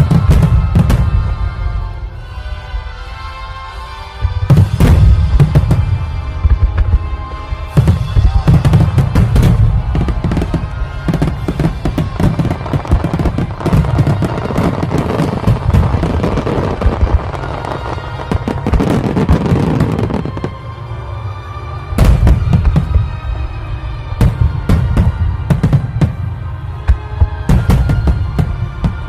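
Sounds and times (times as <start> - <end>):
fireworks bangs and crackles: 0.0 - 2.8, 3.7 - 29.0
music: 0.0 - 29.0.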